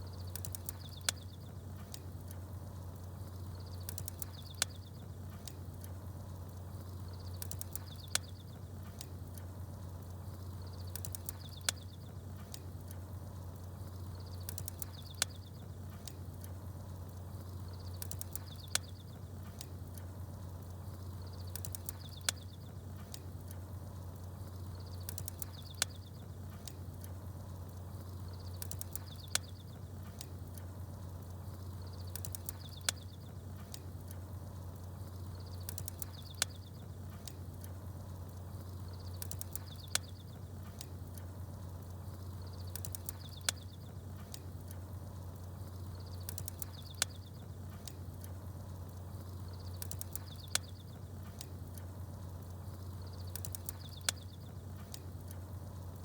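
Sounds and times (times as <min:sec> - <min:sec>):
campfire crackling: 0:00.0 - 0:56.0
small birds chirping: 0:00.0 - 0:56.0
steady low hum: 0:00.0 - 0:56.0.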